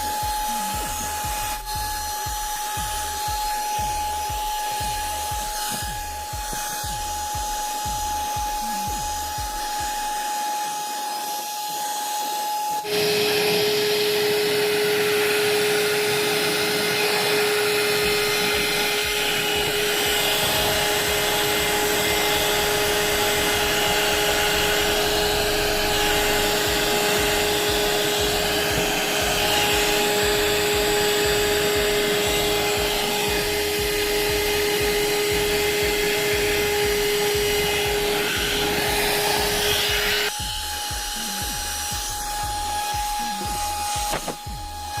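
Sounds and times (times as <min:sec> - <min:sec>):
handheld vacuum cleaner whining: 0:00.0 - 0:45.0.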